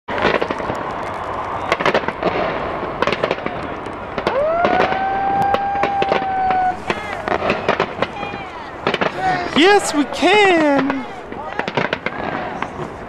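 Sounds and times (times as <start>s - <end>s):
fireworks bangs and crackles: 0.1s - 13.0s.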